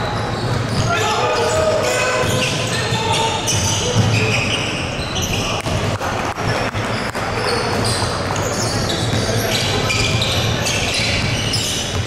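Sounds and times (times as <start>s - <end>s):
shoe squeaks: 0.0s - 5.7s, 6.5s - 12.0s
basketball bouncing: 0.4s - 4.4s, 5.6s - 12.0s.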